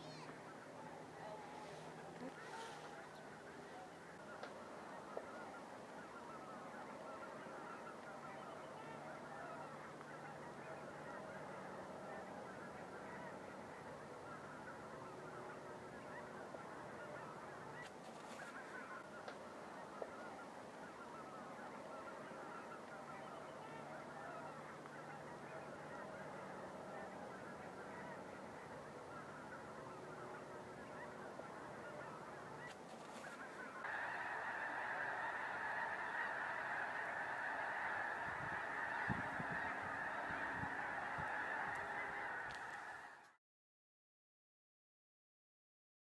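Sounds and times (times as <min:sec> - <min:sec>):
geese honking: 0:00.0 - 0:43.4.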